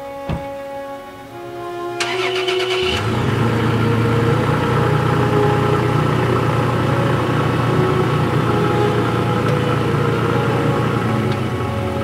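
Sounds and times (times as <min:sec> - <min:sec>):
truck engine idling: 0:02.0 - 0:12.0.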